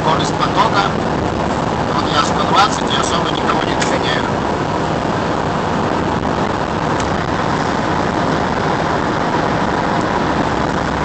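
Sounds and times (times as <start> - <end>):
car road noise: 0.0 - 11.0.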